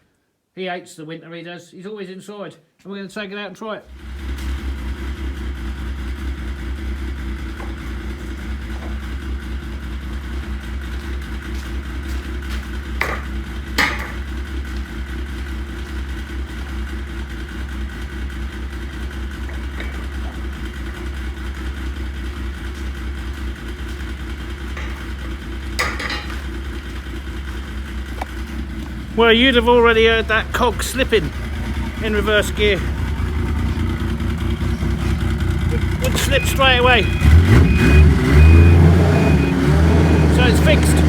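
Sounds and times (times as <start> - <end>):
snowmobile engine running: 3.9 - 41.0.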